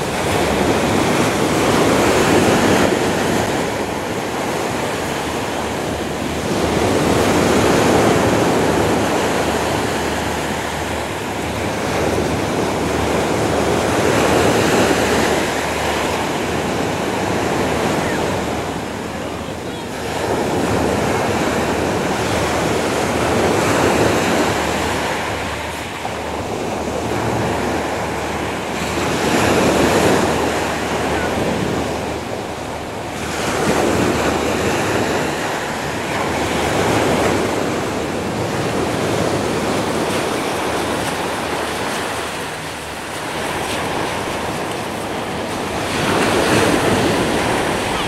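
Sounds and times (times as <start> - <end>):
surf washing up gravelly beach: 0.0 - 48.0.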